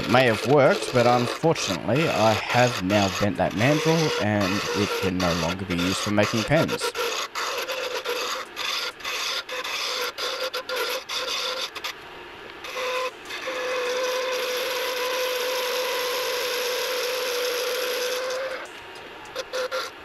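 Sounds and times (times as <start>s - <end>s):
turning tool cutting spinning wood: 0.0s - 20.0s
wood lathe humming: 0.0s - 20.0s.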